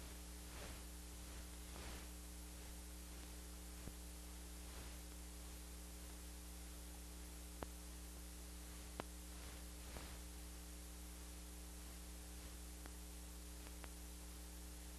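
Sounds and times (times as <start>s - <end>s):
electrical hum: 0.0s - 14.9s
film hiss: 0.0s - 14.9s.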